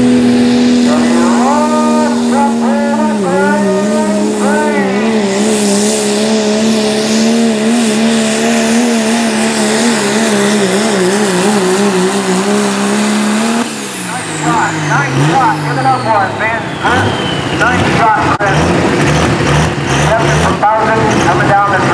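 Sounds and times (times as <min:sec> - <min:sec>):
diesel engine high-revving drone: 0:00.0 - 0:21.9.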